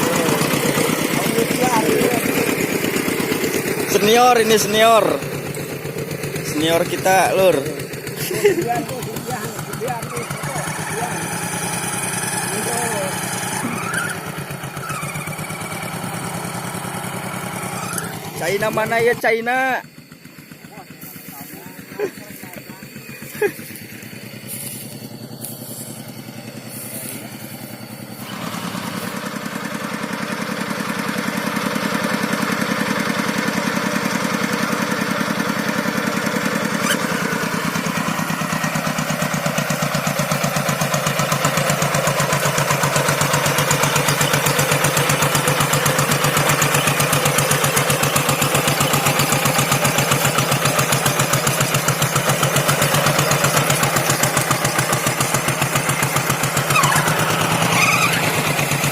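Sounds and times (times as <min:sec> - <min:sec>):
hand tractor engine chugging: 0:00.0 - 0:58.9.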